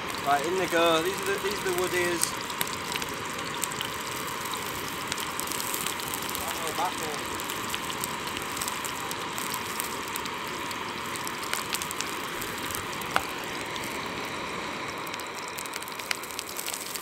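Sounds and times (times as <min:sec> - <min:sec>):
mushrooms sizzling in a pan: 0:00.0 - 0:17.0.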